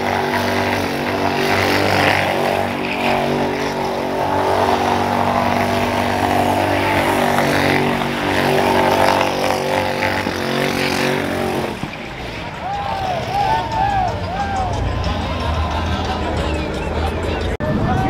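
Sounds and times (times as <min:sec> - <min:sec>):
loud vehicle engine running: 0:00.0 - 0:18.0.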